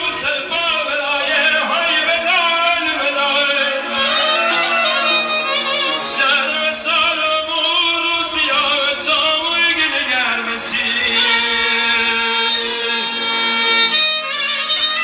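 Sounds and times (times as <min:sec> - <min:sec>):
person singing ornamented melody: 0:00.0 - 0:14.8.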